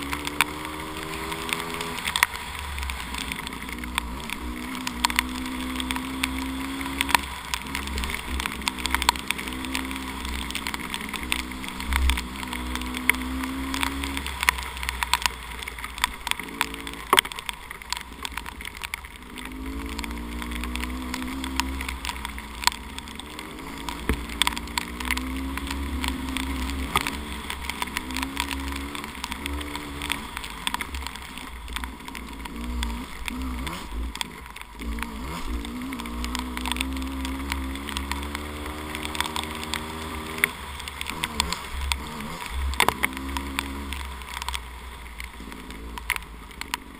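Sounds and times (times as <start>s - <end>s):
dirt bike engine revving: 0.0s - 14.5s, 16.3s - 17.2s, 19.2s - 31.1s, 31.8s - 44.4s
sharp ticks and knocks: 0.0s - 46.9s.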